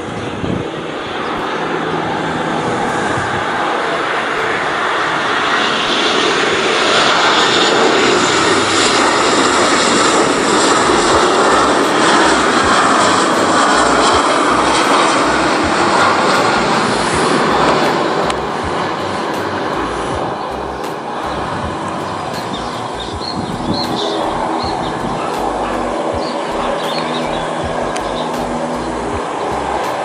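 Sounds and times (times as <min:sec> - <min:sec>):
jet engine rumble and hiss: 0:00.0 - 0:30.0.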